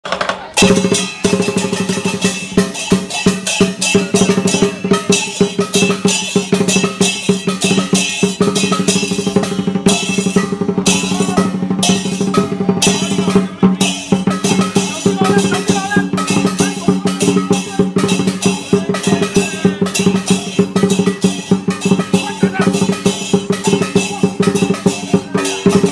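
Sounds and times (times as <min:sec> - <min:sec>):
large drum beaten fast: 0:00.0 - 0:25.9
cymbals clashing: 0:00.6 - 0:25.9.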